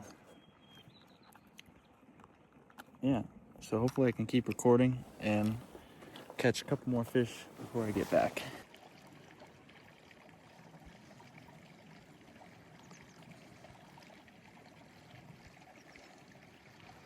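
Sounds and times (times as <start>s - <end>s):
small creek flowing: 0.0s - 17.0s.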